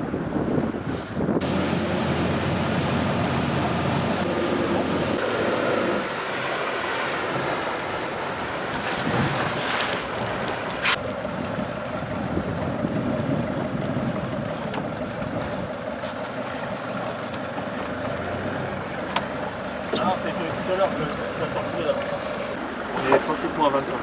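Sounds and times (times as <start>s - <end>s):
wind buffeting microphone: 0.0s - 22.9s
motorboat engine: 0.0s - 24.0s.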